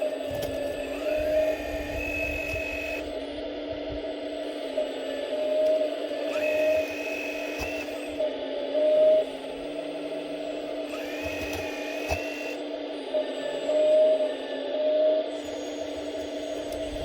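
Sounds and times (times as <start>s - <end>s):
hydraulic pump whining: 0.0s - 14.4s, 15.3s - 17.0s
higher hydraulic whine: 0.0s - 17.0s.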